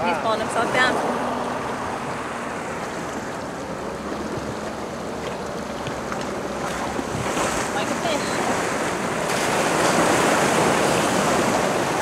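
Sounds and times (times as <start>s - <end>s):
water lapping against dinghy: 0.2s - 12.0s
wind on microphone: 0.7s - 12.0s.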